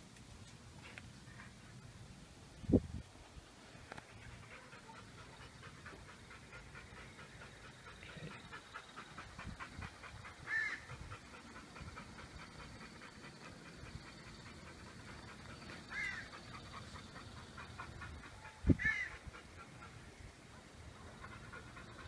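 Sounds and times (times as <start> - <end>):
dog panting: 3.9 - 22.0.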